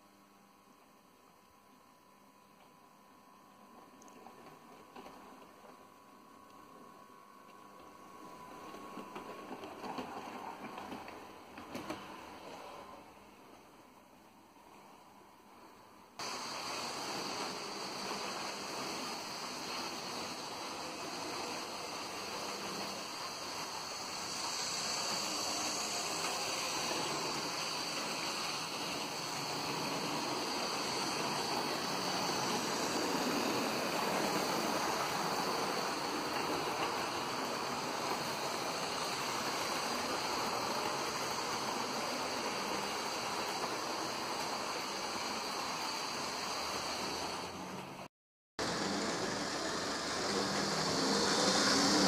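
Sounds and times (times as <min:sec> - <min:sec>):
model train wheels rumbling on rails: 0:07.8 - 0:13.8, 0:16.2 - 0:52.0.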